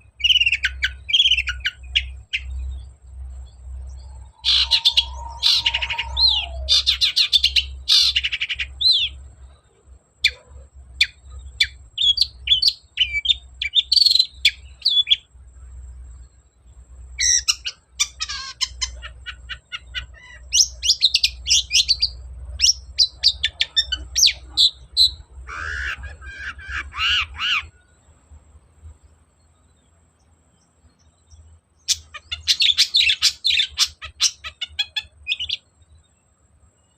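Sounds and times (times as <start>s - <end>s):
bird chattering song: 0.0s - 15.3s, 16.2s - 28.2s, 29.0s - 36.9s
low steady hum: 0.0s - 32.5s.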